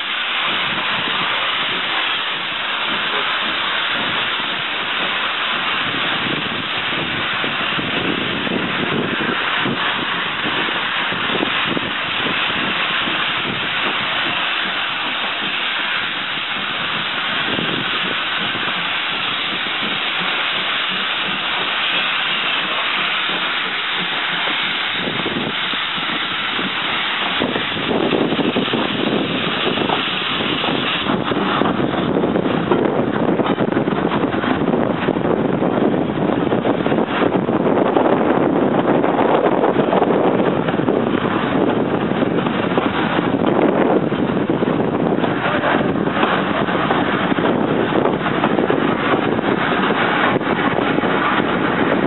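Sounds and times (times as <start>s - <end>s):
steam hissing: 0.0s - 52.0s
steam locomotive pulling out: 0.0s - 52.0s.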